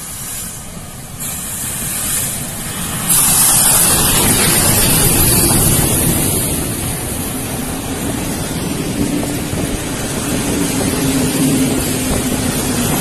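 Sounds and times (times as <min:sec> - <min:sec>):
steam locomotive hissing steam: 0:00.0 - 0:13.0.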